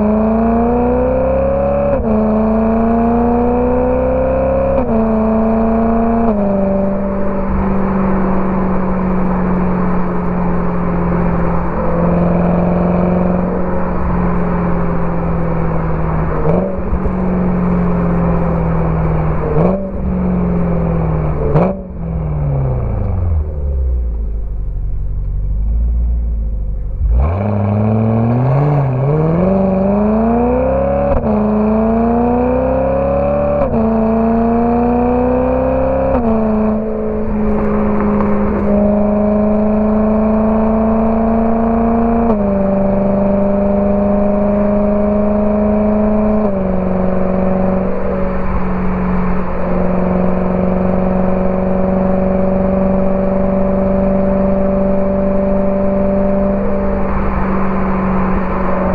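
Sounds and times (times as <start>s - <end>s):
car engine accelerating through gears: 0.0s - 58.9s.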